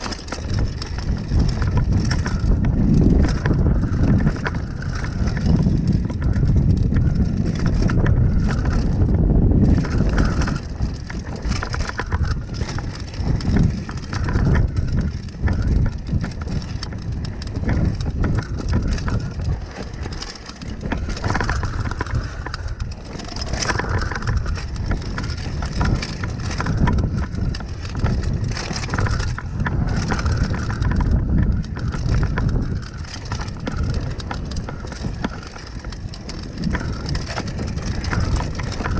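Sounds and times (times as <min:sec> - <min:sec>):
bike rattling over bumps: 0:00.0 - 0:38.9
wind rumble on microphone: 0:00.0 - 0:38.9.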